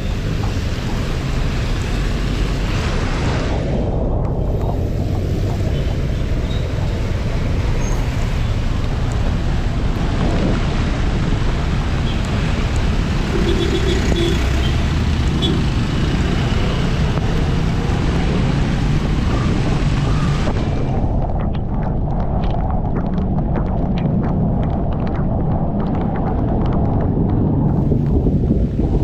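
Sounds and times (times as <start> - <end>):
passing traffic: 0.0 - 29.0
wind and road noise: 0.0 - 29.0.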